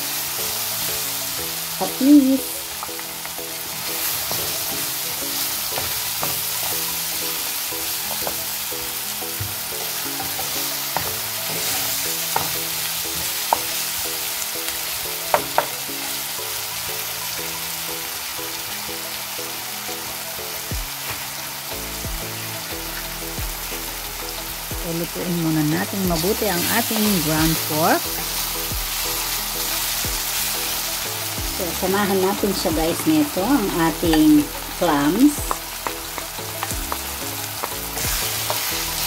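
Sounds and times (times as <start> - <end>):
meat and onion sizzling in a pan: 0.0 - 39.0.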